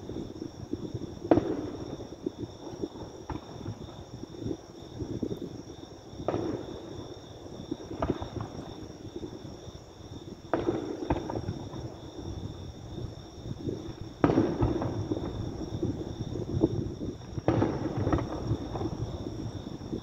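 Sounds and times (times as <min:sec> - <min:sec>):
distant fireworks booming: 0:00.0 - 0:20.0.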